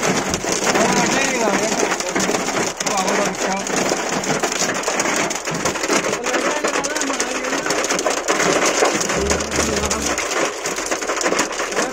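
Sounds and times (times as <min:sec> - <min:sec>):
rain and hail on car roof: 0:00.0 - 0:11.9.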